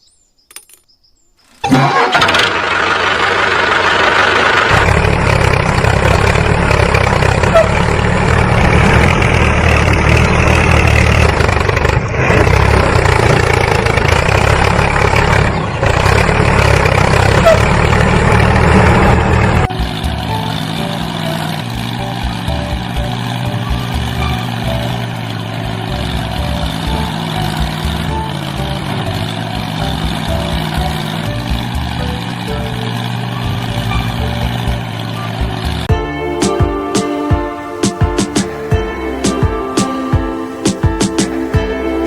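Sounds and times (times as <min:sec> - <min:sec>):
engine running with low throb: 0:01.7 - 0:42.0.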